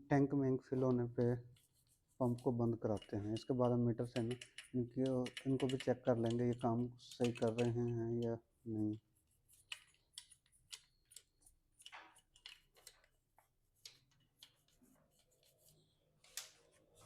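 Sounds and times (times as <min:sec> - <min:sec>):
faint clicks and taps: 0:00.9 - 0:17.0.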